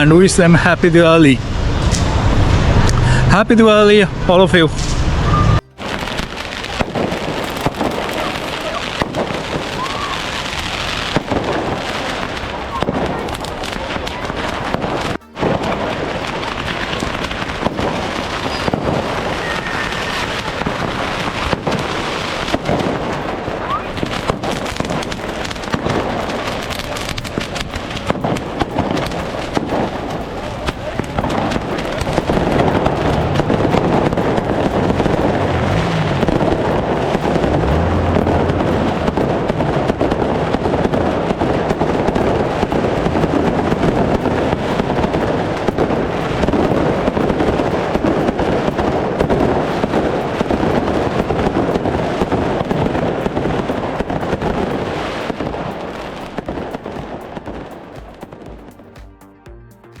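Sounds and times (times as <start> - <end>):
fireworks bangs and pops: 0.0 - 59.3
music: 5.4 - 60.0.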